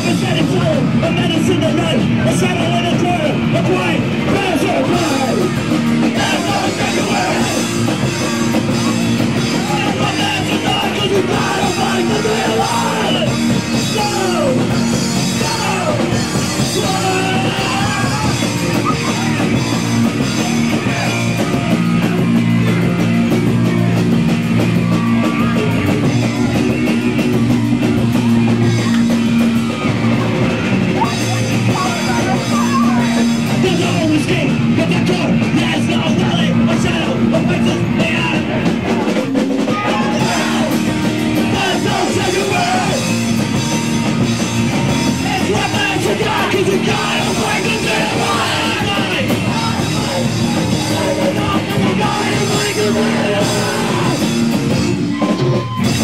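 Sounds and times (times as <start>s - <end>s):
bass guitar: 0.0s - 56.0s
distorted electric guitar: 0.0s - 56.0s
drum kit pounding: 0.0s - 56.0s.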